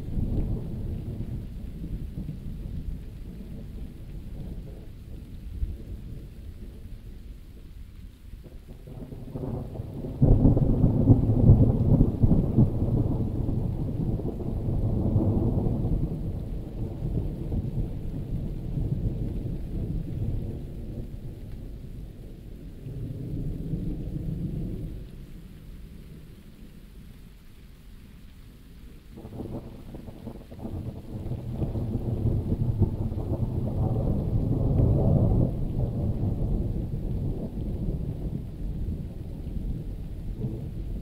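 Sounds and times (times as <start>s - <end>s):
thunder rumbling: 0.0s - 7.3s, 8.4s - 26.4s, 29.2s - 41.0s.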